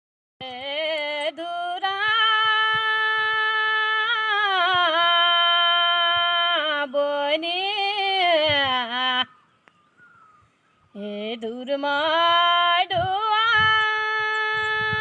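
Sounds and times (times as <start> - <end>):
woman singing folk song: 0.4 - 9.4, 10.9 - 15.0.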